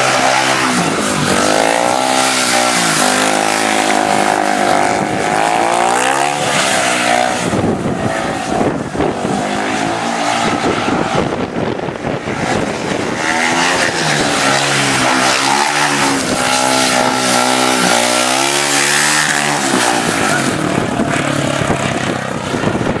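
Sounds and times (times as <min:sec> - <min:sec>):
motorcycle engine running hard: 0:00.0 - 0:06.5, 0:10.4 - 0:23.0.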